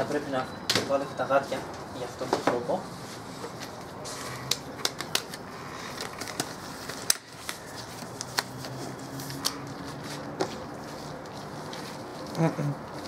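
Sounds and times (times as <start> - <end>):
rubber gloves rubbing and rustling: 1.4 - 4.4, 5.1 - 13.0.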